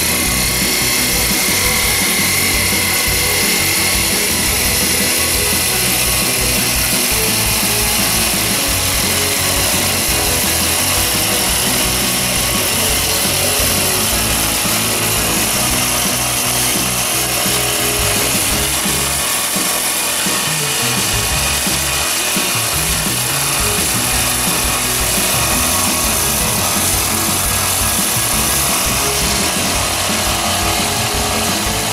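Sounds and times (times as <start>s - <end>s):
small two-stroke engine running: 0.0s - 31.9s.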